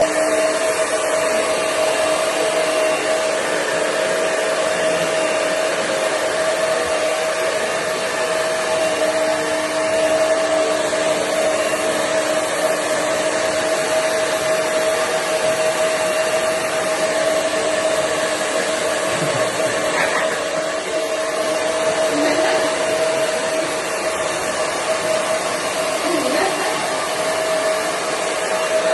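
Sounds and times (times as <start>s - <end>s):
hairdryer running: 0.0s - 28.9s.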